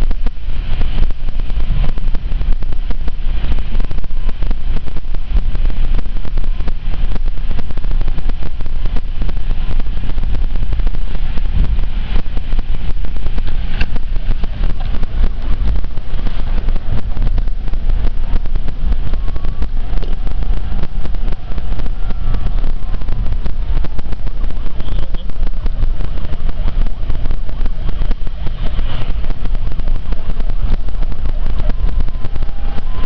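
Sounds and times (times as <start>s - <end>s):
car road noise: 0.0s - 33.0s
wind buffeting microphone: 0.0s - 33.0s.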